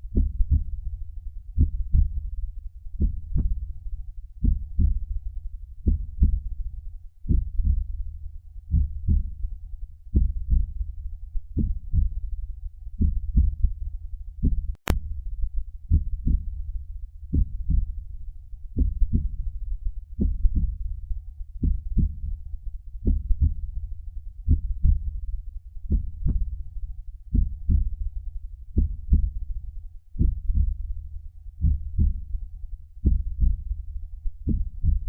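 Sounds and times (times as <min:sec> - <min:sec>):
slow heartbeat thumps: 0:00.0 - 0:35.0.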